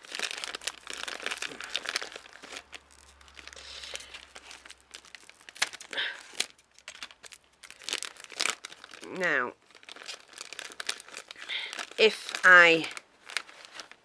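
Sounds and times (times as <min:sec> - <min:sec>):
dry moss crinkling and rustling: 0:00.0 - 0:14.0.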